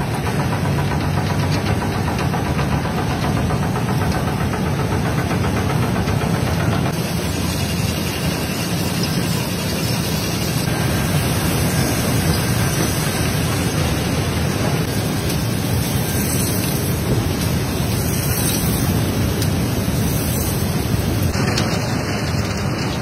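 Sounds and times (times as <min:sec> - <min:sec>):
factory machinery noise: 0:00.0 - 0:23.0.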